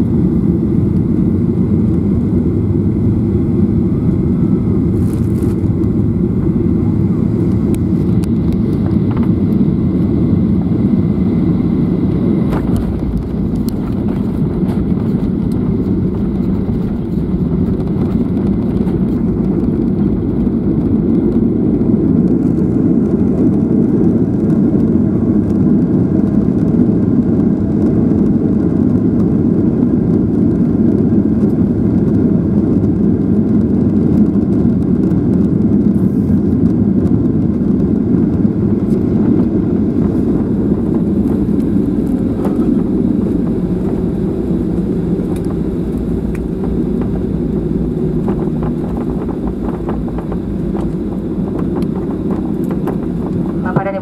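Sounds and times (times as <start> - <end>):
airliner engines rumbling in cabin: 0.0 - 54.0.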